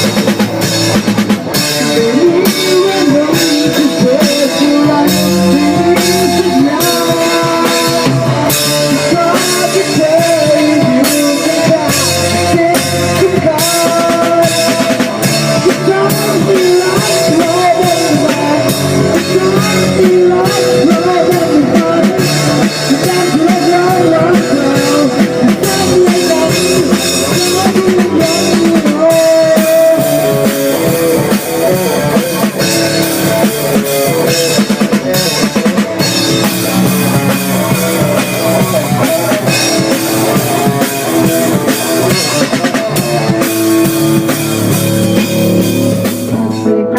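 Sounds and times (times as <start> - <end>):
bass drum: 0.0 - 46.9
drum kit: 0.0 - 46.9
guitar: 0.0 - 46.9.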